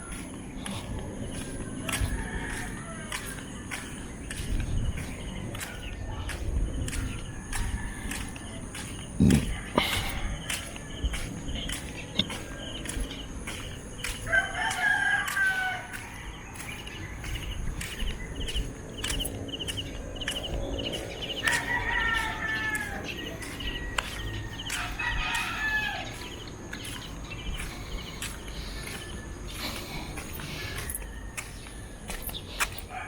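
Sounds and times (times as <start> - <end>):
roosters crowing: 0.0 - 6.3, 6.9 - 33.0.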